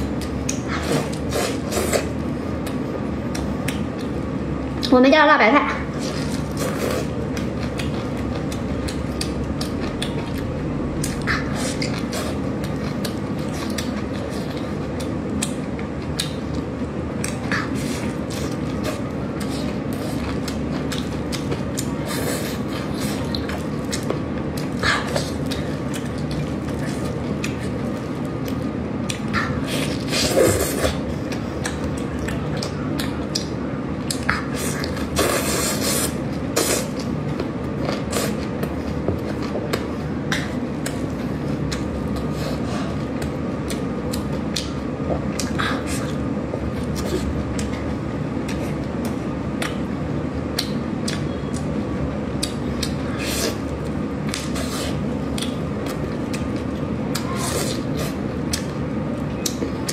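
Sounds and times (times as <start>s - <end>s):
wet chewing sounds: 0.0s - 4.9s, 5.8s - 59.9s
steady background noise: 0.0s - 59.9s.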